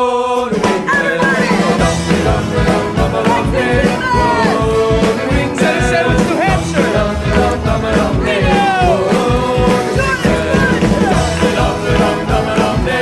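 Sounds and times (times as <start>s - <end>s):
background music with beat: 0.4s - 13.0s.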